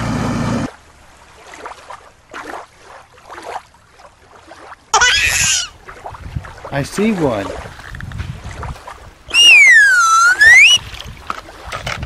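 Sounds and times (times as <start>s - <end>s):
stream water trickling and splashing: 0.6s - 12.0s.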